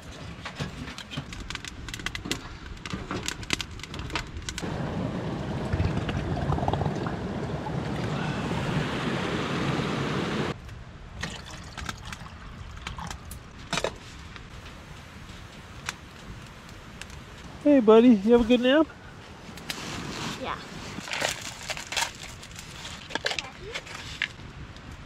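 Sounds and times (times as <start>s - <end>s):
wood fire crackling: 0.0s - 10.8s, 11.4s - 25.0s.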